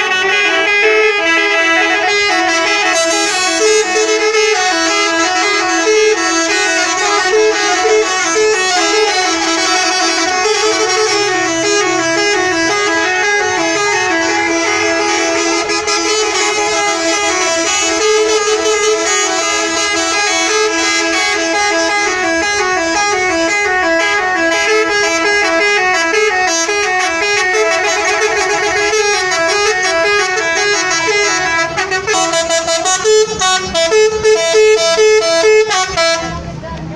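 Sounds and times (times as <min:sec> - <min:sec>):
multi-tone bus horn tune: 0:00.0 - 0:36.9.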